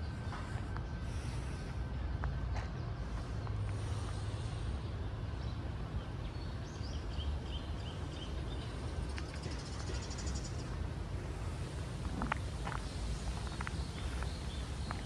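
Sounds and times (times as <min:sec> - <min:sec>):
distant traffic rumble: 0:00.0 - 0:15.0
small birds chirping: 0:00.0 - 0:15.0.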